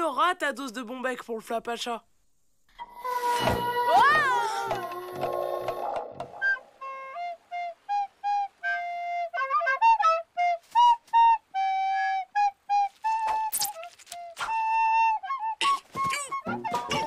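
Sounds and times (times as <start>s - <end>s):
flute melody: 2.8s - 17.0s.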